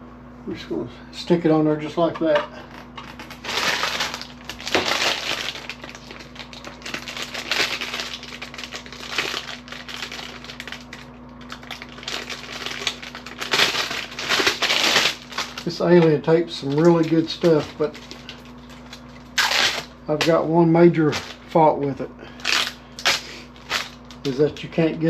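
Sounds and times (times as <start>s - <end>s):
plastic film crinkling: 2.6s - 21.6s, 22.4s - 24.7s.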